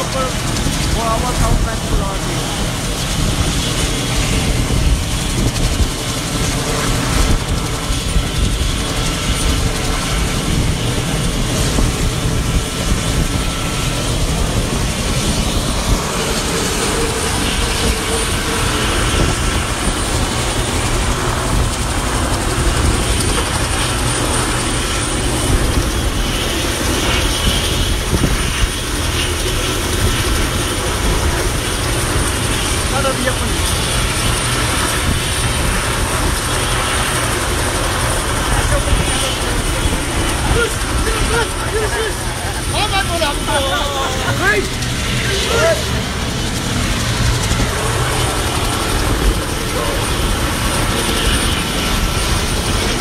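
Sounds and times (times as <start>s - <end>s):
helicopter turbine roar: 0.0s - 53.0s
rotor blades pulsing: 0.0s - 53.0s.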